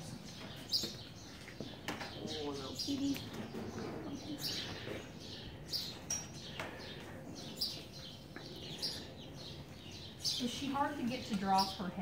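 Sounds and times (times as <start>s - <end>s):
faint barn background noise: 0.0s - 12.0s
small birds chirping: 0.0s - 12.0s.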